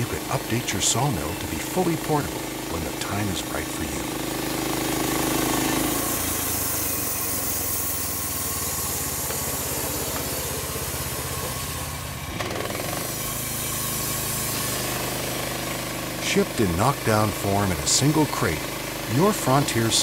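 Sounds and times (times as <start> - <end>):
band saw blade cutting log: 0.0 - 20.0
petrol engine running under load: 0.0 - 20.0.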